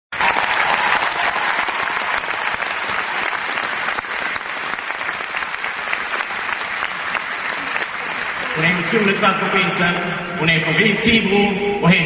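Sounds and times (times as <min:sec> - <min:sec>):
crowd applauding: 0:00.1 - 0:10.0.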